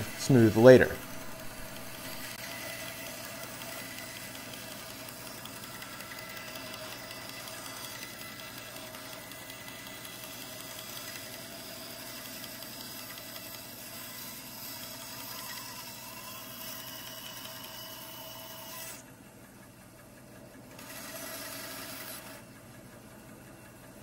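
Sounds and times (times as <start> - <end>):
bandsaw running: 0.0 - 19.1, 20.7 - 22.6.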